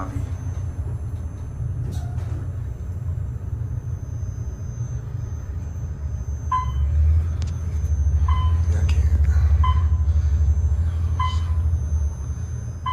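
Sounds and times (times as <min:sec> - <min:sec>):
elevator ride low rumble: 0:00.0 - 0:12.9.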